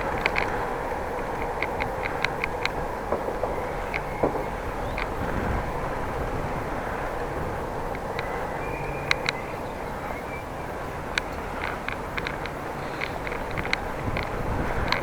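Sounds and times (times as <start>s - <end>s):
bicycle rolling noise: 0.0s - 15.0s
wind noise: 0.0s - 15.0s.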